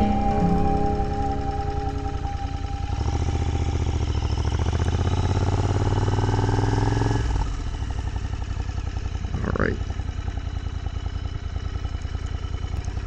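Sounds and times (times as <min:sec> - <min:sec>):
motorcycle engine running: 0:02.4 - 0:13.0.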